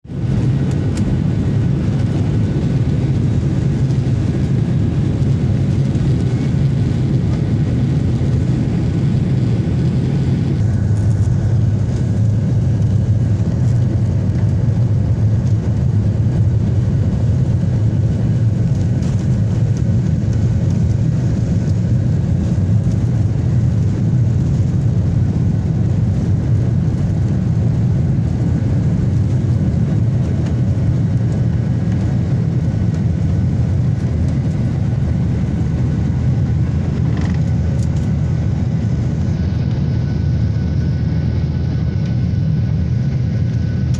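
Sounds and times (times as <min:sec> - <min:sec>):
airliner cabin engine drone: 0:00.0 - 0:43.9.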